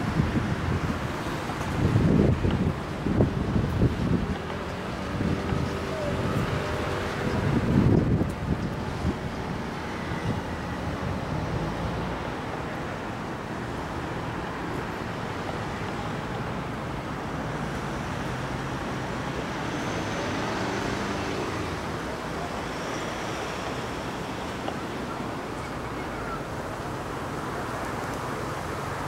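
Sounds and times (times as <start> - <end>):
distant road traffic rumble: 0.0 - 29.0.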